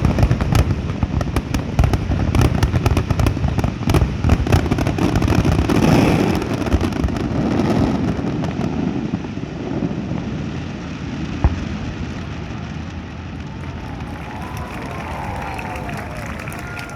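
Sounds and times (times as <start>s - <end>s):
fireworks crackling bangs: 0.0s - 16.9s.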